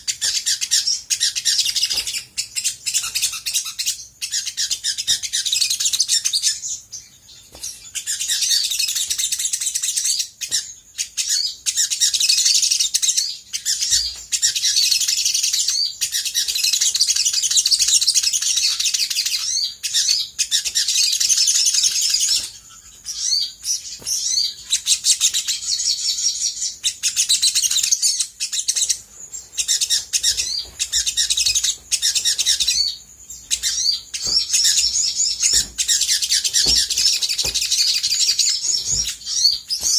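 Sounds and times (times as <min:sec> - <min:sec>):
bird high chattering song: 0:00.0 - 0:39.9.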